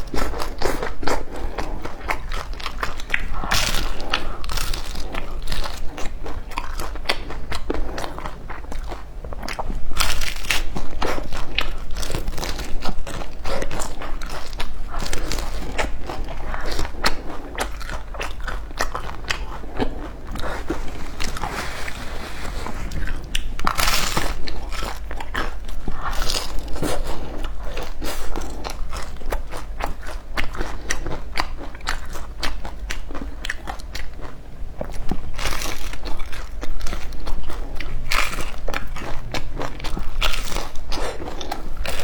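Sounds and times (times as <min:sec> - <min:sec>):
person chewing crunchy food: 0:00.0 - 0:42.0.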